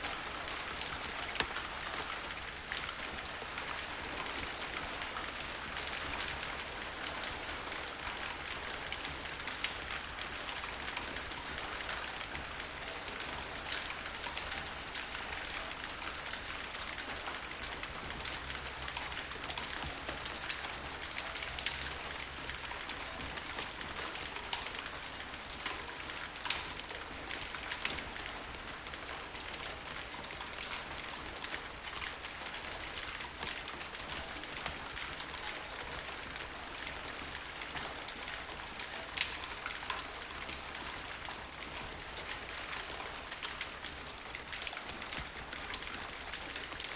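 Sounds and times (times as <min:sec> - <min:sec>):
raindrops ticking close by: 0:00.0 - 0:46.9
steady rain falling: 0:00.0 - 0:46.9.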